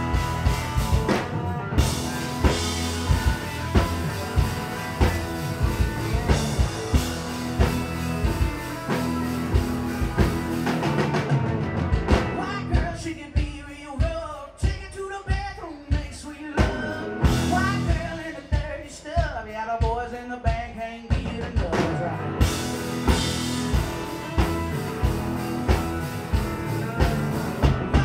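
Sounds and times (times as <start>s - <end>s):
rock band playing: 0.0s - 28.0s.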